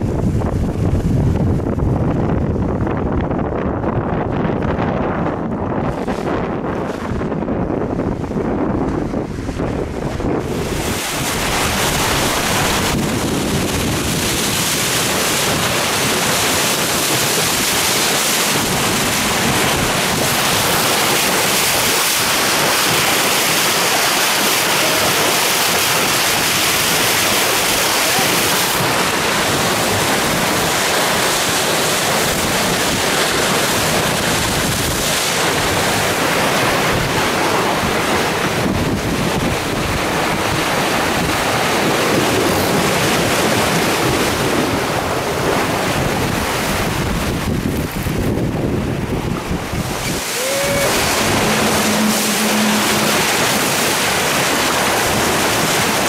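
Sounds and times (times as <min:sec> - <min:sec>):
water rushing along a hull: 0:00.0 - 0:56.0
wind buffeting microphone: 0:00.0 - 0:56.0.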